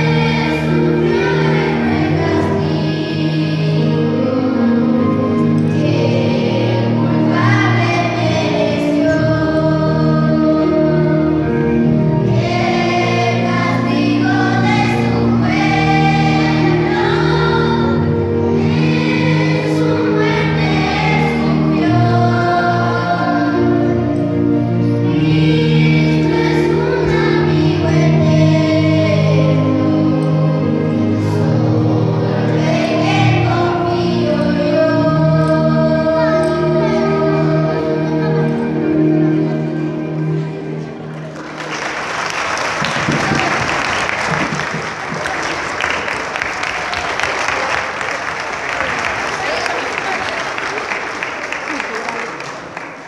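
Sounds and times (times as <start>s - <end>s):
girls' choir singing: 0.0s - 51.8s.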